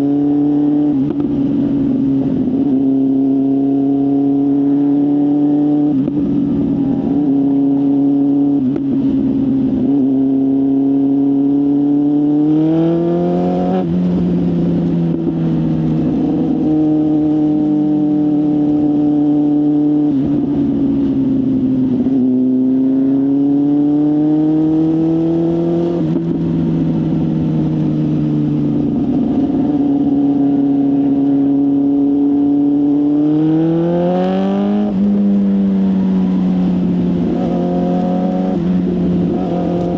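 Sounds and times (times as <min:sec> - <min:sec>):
sports motorcycle engine revving: 0:00.0 - 0:39.9.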